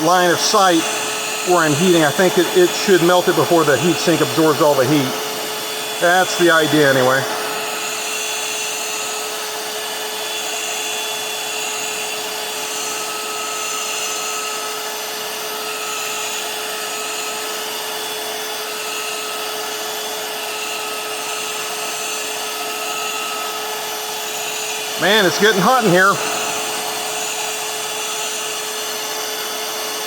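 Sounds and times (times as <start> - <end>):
heat gun fan blowing: 0.0 - 30.0.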